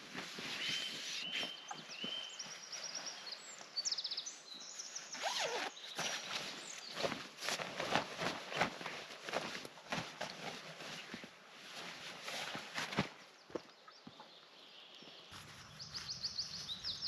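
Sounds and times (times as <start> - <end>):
rustling steps on forest floor: 0.0 - 13.8, 14.9 - 17.0.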